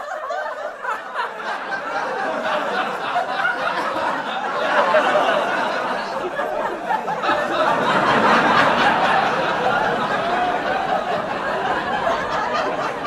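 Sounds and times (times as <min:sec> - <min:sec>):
crowd chatter: 0:00.0 - 0:13.0
crowd laughter: 0:00.0 - 0:13.0.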